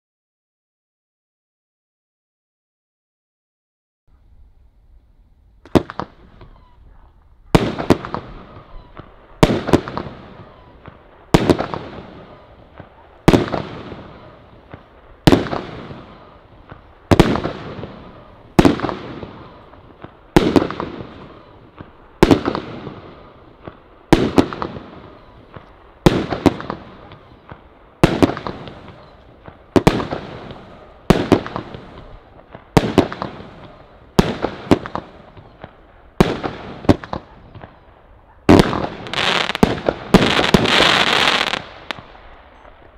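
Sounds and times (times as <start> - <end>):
firework shots firing: 5.6 - 6.8, 7.5 - 42.9.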